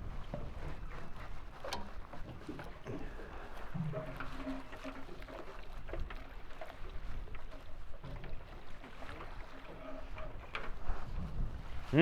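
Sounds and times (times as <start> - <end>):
boat engine low rumble: 0.0 - 12.0
light knocks and clatter: 0.0 - 12.0.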